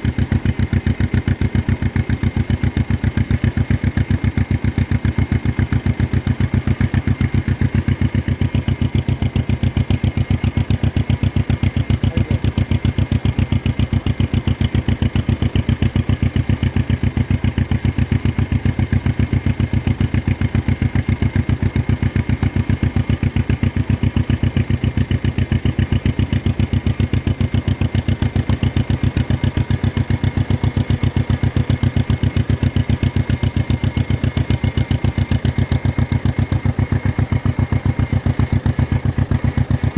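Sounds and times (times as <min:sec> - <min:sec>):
two-cylinder engine popping exhaust: 0:00.0 - 0:39.9.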